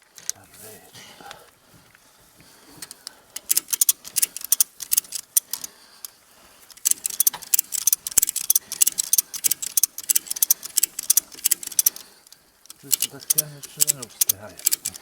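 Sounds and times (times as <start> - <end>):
hand ratchet clicking: 2.8 - 15.0.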